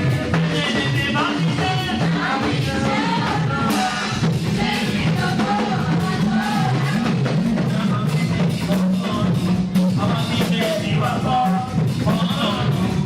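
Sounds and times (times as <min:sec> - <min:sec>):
band playing: 0:00.0 - 0:13.0
bass: 0:00.0 - 0:13.0
drum beat: 0:00.0 - 0:13.0
group singing: 0:00.0 - 0:13.0.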